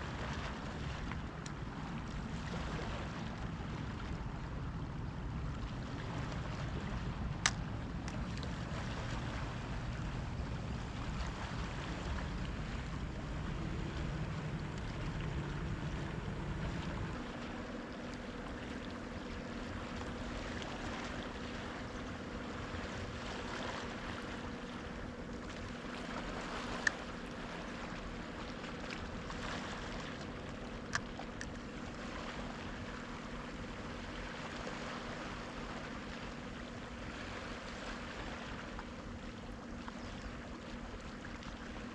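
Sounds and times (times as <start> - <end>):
low steady hum: 0.0 - 41.9
sea water washing on shore: 0.0 - 41.9.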